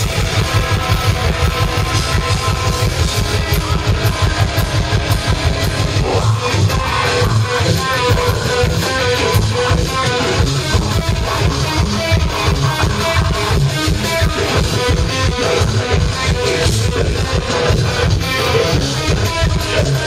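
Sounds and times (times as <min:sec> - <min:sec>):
death metal band playing: 0:00.0 - 0:20.0
quick guitar notes: 0:00.0 - 0:20.0.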